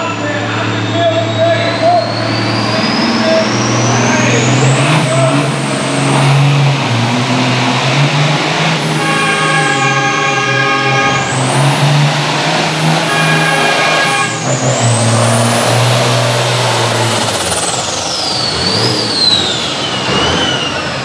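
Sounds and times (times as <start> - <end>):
diesel tractor engine under load: 0.0 - 21.0.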